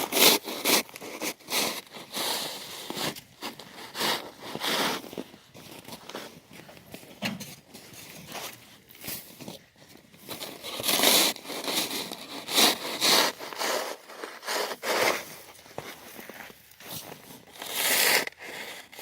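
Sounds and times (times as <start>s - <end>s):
ice scraping and crunching: 0.0s - 19.0s.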